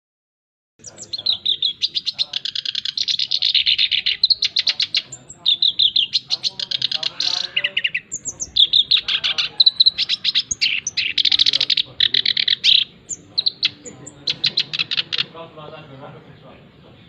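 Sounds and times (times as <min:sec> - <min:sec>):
reed warbler singing: 0:00.8 - 0:17.0.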